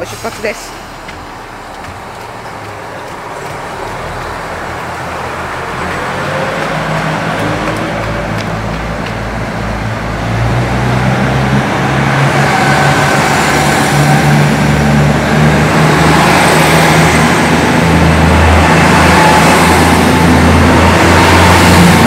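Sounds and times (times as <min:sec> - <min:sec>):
diesel train pulling away: 0:00.0 - 0:22.0.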